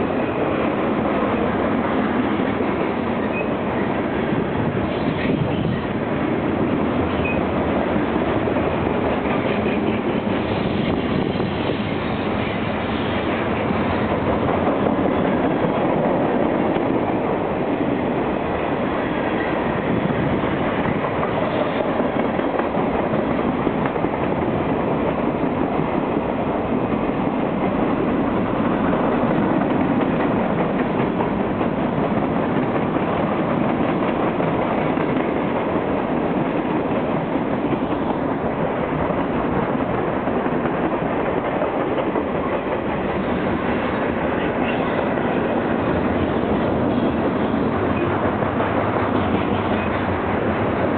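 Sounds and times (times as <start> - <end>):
freight train rolling on rails: 0.0 - 50.9.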